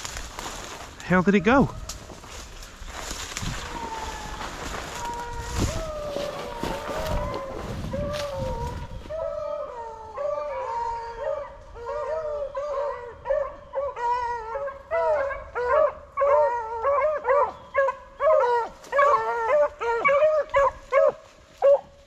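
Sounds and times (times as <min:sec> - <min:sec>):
dogs baying and howling: 0:03.5 - 0:22.0.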